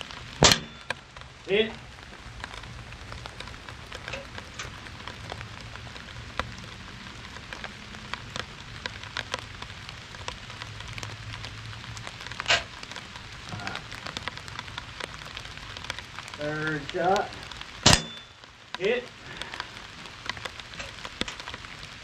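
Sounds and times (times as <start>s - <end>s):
rain falling: 0.0s - 22.0s
water drips ticking: 0.0s - 22.0s.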